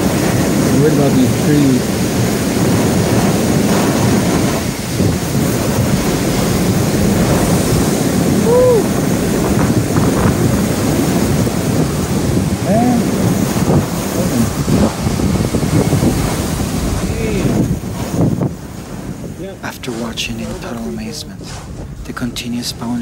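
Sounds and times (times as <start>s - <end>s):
hurricane wind and rain: 0.0s - 23.0s
wind buffeting microphone: 0.0s - 23.0s.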